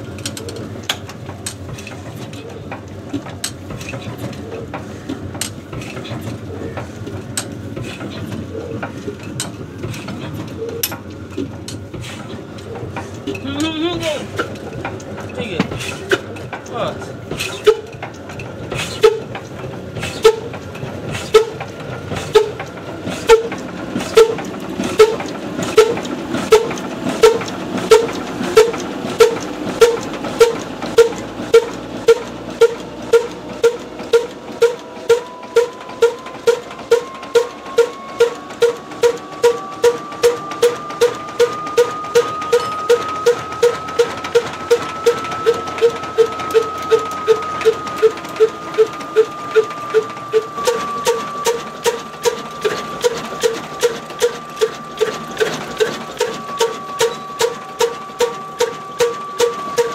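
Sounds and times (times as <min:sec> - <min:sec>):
diesel engine exhaust beats: 0:00.0 - 0:59.9.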